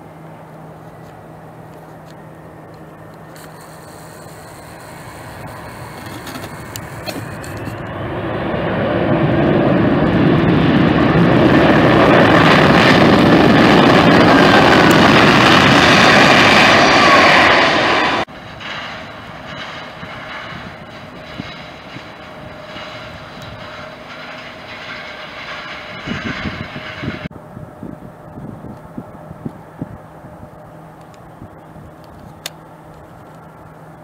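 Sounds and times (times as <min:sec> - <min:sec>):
jet engines reverse thrust: 0:00.0 - 0:34.0.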